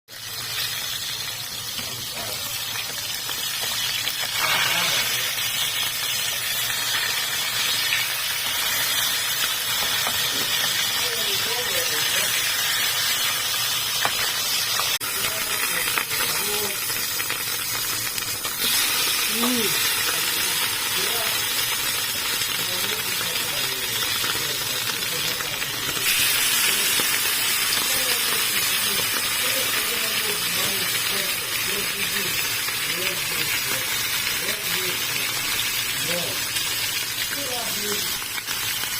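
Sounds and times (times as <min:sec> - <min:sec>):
fish sizzling in hot oil: 0:00.1 - 0:38.9.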